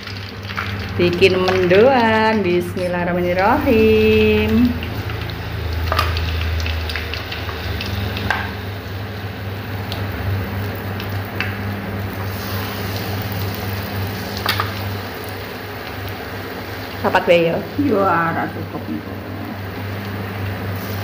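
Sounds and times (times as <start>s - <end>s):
food deep-frying in hot oil: 0.0s - 21.0s.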